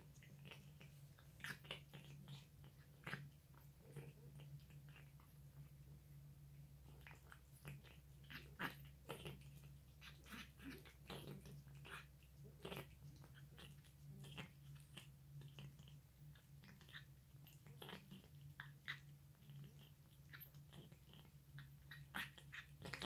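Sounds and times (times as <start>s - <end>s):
cat chewing food: 0.0s - 23.0s.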